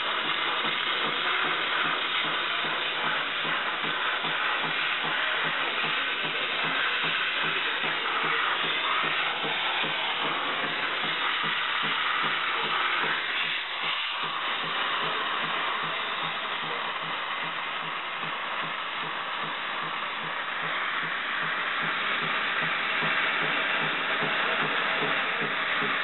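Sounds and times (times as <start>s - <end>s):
steam hissing: 0.0s - 26.0s.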